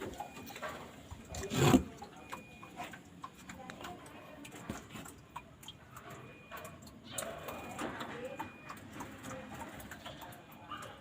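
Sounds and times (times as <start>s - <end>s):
bird ticks and clicks: 2.0s - 11.0s.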